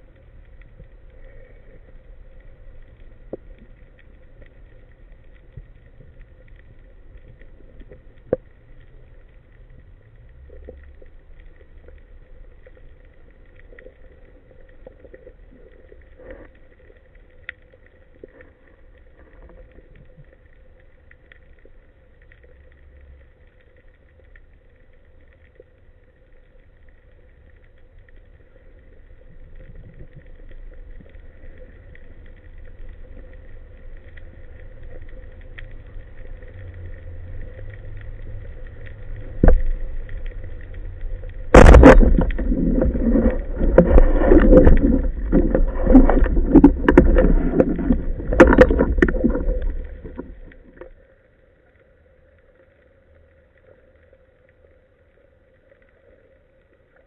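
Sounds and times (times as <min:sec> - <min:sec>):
faint clicks and crackles: 0:00.0 - 0:57.0
underwater low rumble: 0:00.0 - 0:57.0.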